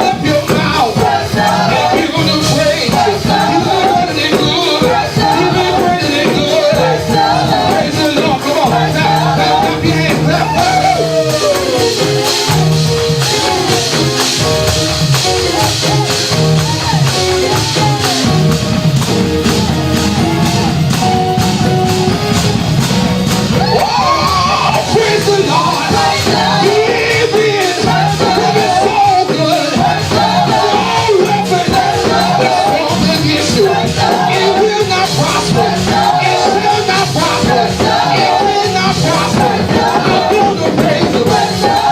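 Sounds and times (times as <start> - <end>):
gospel singing over a band: 0.0 - 41.9.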